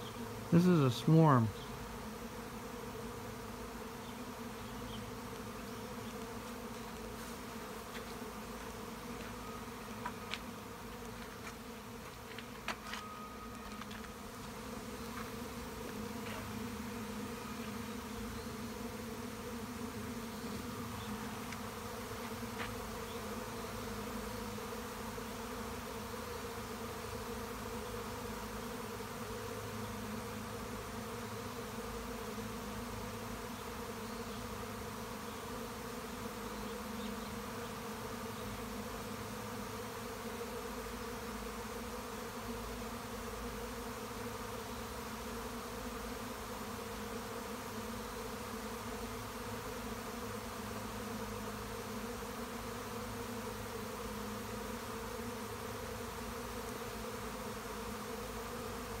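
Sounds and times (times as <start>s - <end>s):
bee swarm humming: 0.0s - 59.0s.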